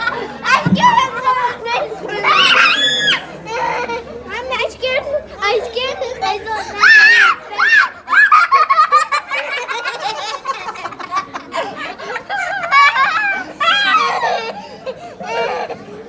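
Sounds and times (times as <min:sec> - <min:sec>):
young children laughing: 0:00.0 - 0:04.7, 0:05.9 - 0:16.0.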